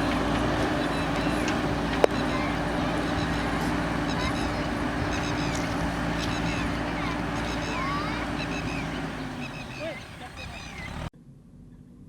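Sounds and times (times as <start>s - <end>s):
birds chirping: 0.0s - 11.1s
diesel engine low drone: 0.0s - 11.1s.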